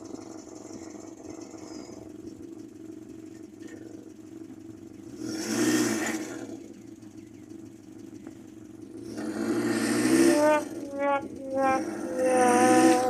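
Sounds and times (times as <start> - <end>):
van engine running and revving: 0.0 - 13.0.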